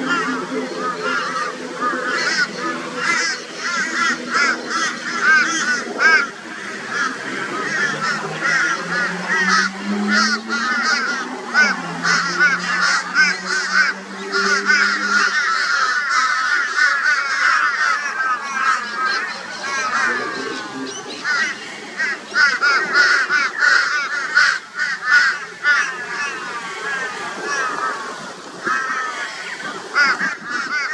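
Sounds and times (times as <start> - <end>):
crows cawing harshly: 0.0 - 30.9.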